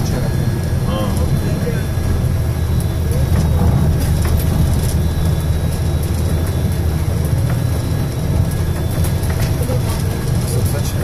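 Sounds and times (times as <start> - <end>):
coach engine and road rumble: 0.0 - 11.0.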